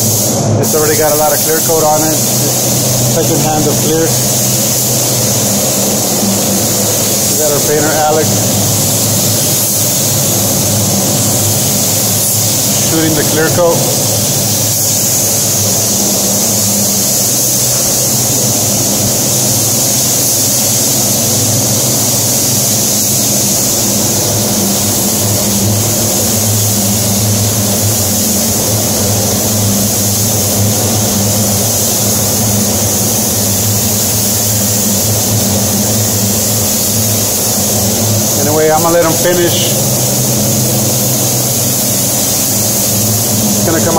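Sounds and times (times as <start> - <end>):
spray gun hissing: 0.0 - 43.9
ventilation fans hissing: 0.0 - 43.9.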